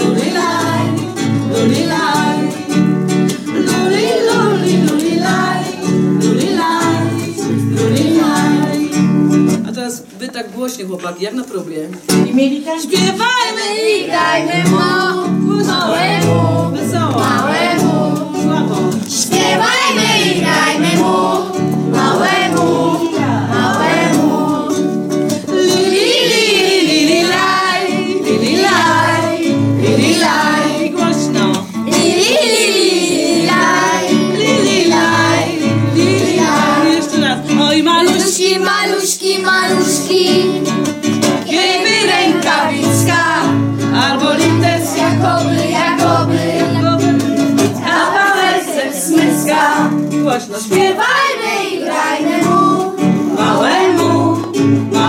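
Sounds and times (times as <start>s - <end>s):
children and adults singing: 0.0s - 9.5s, 12.8s - 55.0s
instrumental accompaniment: 0.0s - 10.1s, 12.0s - 55.0s.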